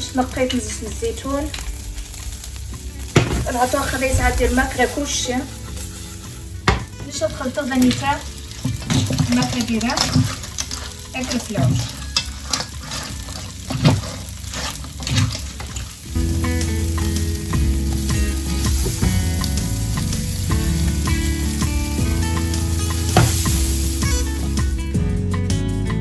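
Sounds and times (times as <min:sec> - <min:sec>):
food sizzling in a frying pan: 0:00.0 - 0:25.0
scraping in a pan: 0:00.0 - 0:25.0
background music: 0:00.0 - 0:26.0.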